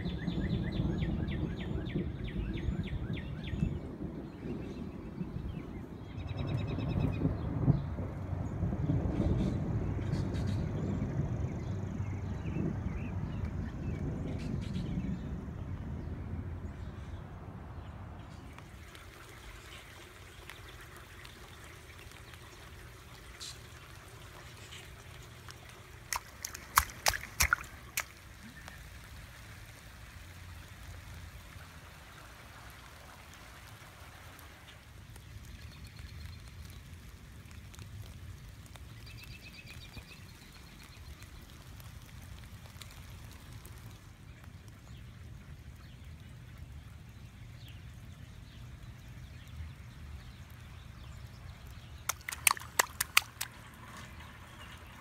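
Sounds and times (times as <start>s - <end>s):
rain falling and dripping: 0.0s - 55.0s.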